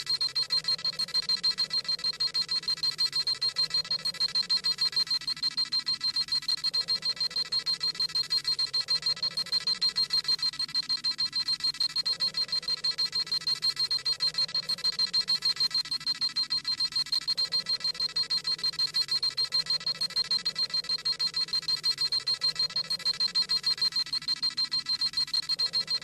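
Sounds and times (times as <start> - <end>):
rapid high electronic beeping: 0.0 - 26.0.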